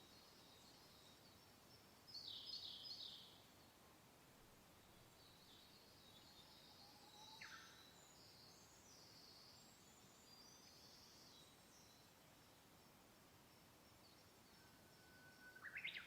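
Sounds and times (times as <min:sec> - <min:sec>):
gentle wind hiss: 0:00.0 - 0:16.0.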